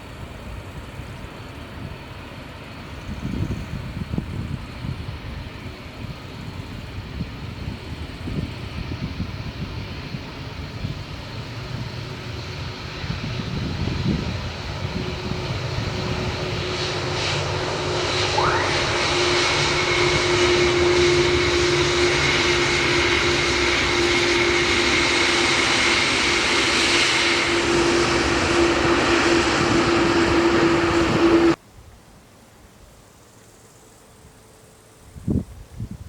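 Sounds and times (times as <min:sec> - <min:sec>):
jet engines passing: 0:00.0 - 0:31.6.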